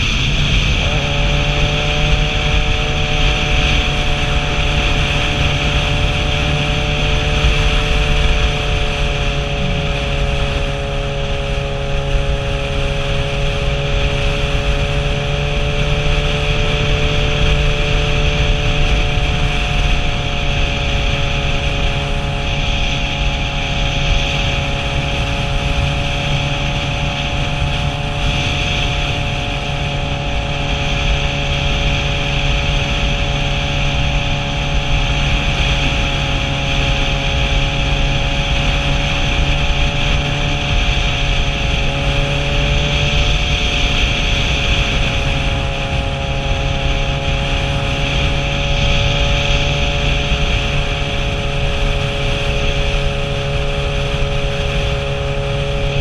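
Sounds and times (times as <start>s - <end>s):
motorcycle engine cruising: 0.0s - 56.0s
wind noise on microphone: 0.0s - 56.0s.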